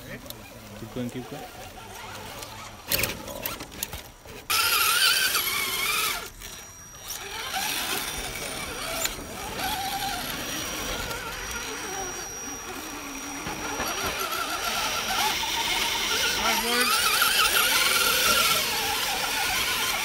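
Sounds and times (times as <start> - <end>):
electric motor and gear whine: 0.0 - 20.0.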